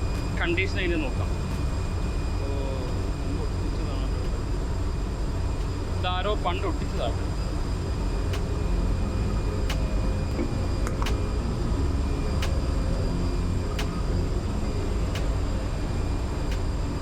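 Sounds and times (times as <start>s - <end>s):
engine room machinery drone: 0.0s - 17.0s.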